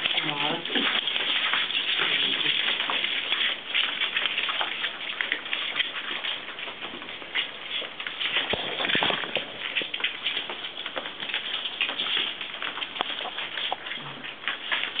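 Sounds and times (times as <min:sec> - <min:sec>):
claws ticking and clicking: 0:00.0 - 0:15.0
dogs scuffling on hard floor: 0:00.0 - 0:15.0.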